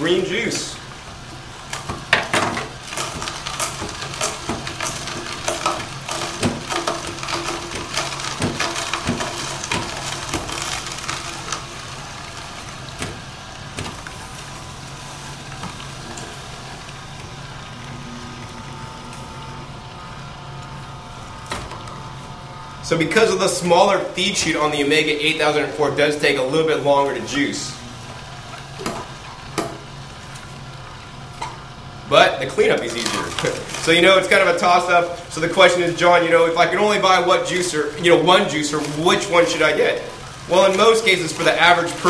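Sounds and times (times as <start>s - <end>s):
juicer crunching carrots: 0.0s - 42.0s
juicer motor hum: 0.0s - 42.0s.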